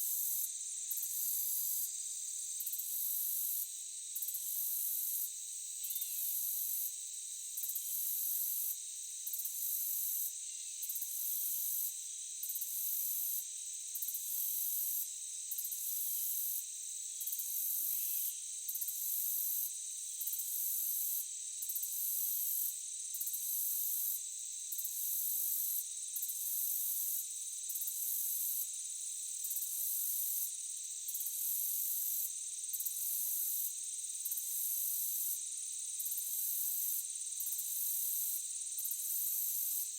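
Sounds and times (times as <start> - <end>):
high insect trill: 0.0 - 39.9
insect drone: 0.0 - 39.9.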